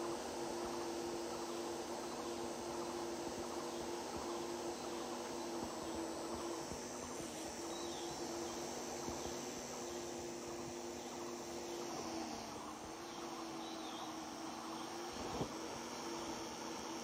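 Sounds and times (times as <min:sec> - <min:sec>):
bees swarm humming: 0:00.1 - 0:17.0.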